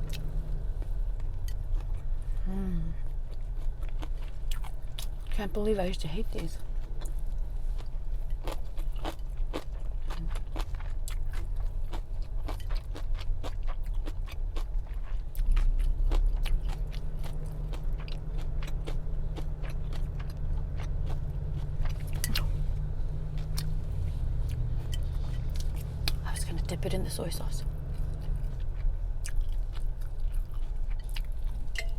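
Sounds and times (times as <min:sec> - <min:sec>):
car hum: 0:00.0 - 0:31.9
person chewing and biting food: 0:03.1 - 0:05.3, 0:06.8 - 0:26.2, 0:27.9 - 0:31.9.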